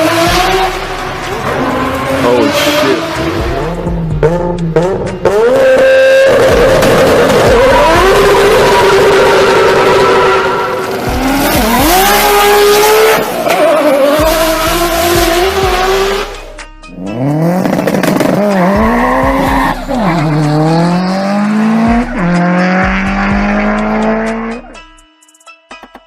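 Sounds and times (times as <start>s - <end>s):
car engine accelerating: 0.0s - 24.8s.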